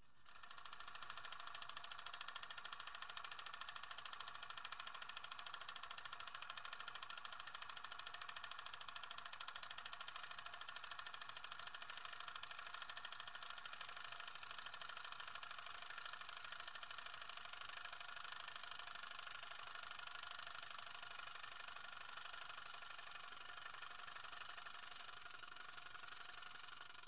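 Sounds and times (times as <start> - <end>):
film projector clattering: 0.2 - 27.0.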